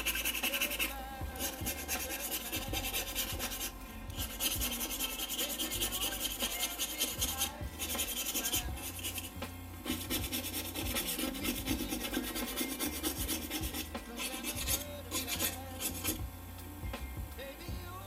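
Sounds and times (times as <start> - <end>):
plastic tool scraping metal: 0.0 - 16.2.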